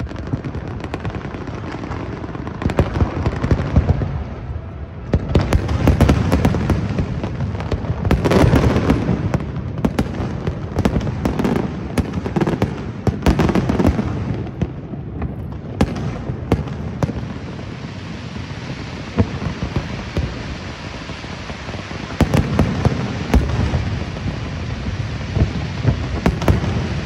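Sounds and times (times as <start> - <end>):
fireworks bangs and crackling: 0.0 - 27.0
fireworks rumble: 0.0 - 27.0.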